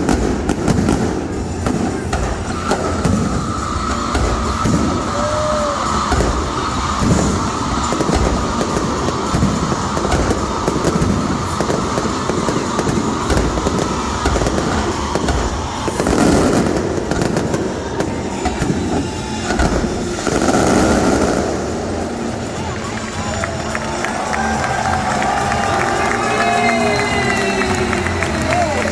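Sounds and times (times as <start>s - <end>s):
fireworks bursts and crackles: 0.0s - 28.9s.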